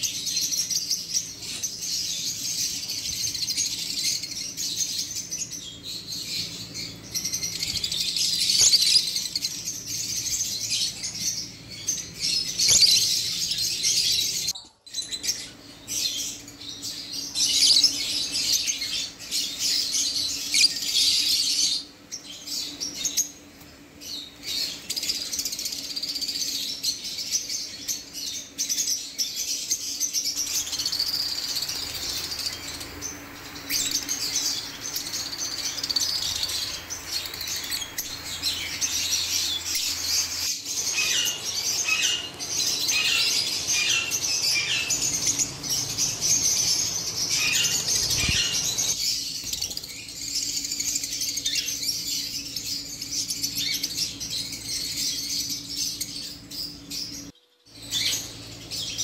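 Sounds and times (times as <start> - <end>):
lovebirds chirping: 0.0 - 59.0.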